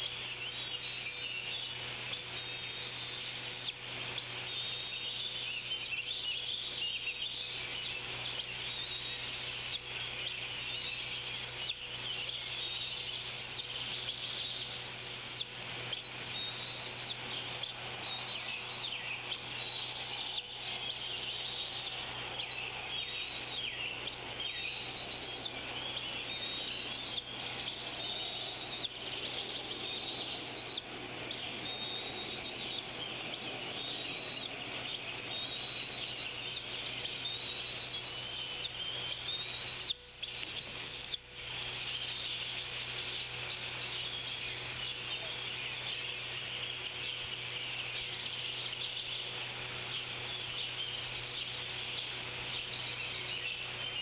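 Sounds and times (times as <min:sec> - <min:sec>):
bird whistled call: 0:00.0 - 0:54.0
low hum and hiss: 0:00.0 - 0:54.0.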